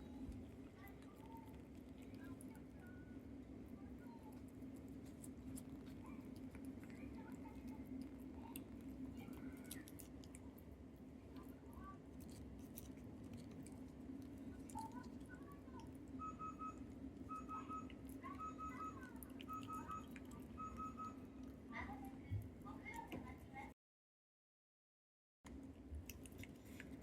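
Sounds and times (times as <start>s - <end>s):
steady low hum: 0.0s - 22.9s
cat licking and chewing: 0.0s - 23.7s, 25.5s - 27.0s.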